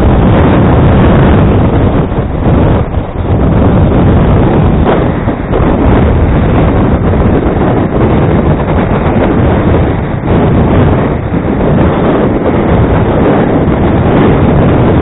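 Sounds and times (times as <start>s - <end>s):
blizzard wind on microphone: 0.0s - 15.0s.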